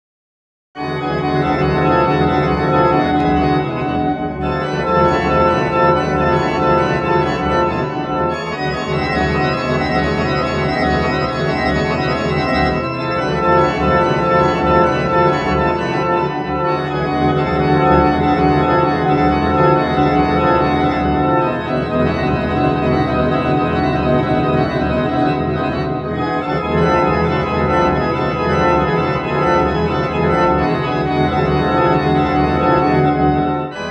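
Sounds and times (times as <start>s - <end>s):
sustained organ chords: 0.8s - 33.9s.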